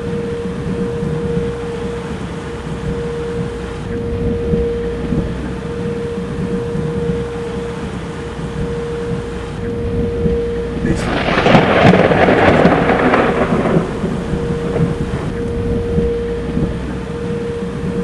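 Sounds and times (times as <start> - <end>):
steady background hum: 0.0 - 18.0
thunderclap crackling and rumbling: 0.0 - 18.0.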